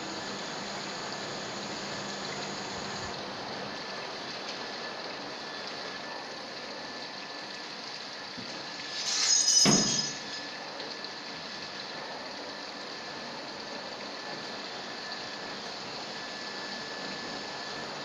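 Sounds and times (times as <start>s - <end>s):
dry-cleaning machine running: 0.0s - 18.0s.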